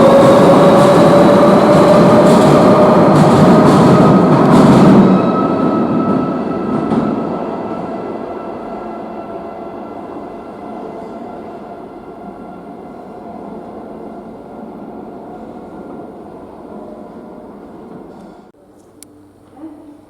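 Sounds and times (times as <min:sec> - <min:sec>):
underground train rumble: 0:00.0 - 0:18.6.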